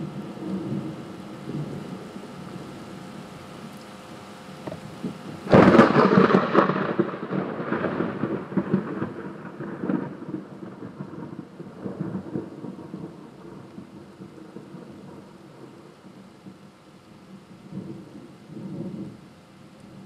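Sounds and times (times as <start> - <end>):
thunder clap rumbling: 0.0 - 2.8, 4.6 - 16.6, 17.3 - 19.2
steady rain: 0.0 - 20.0.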